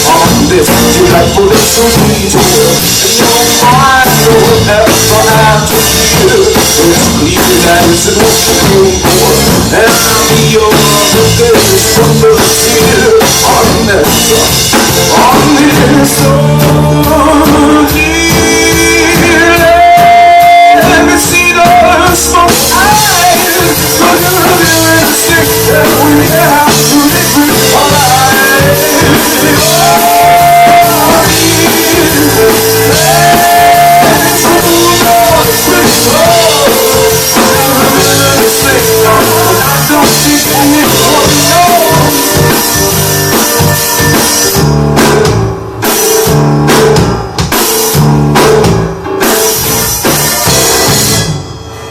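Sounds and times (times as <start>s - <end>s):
live rock band playing: 0.0s - 51.9s.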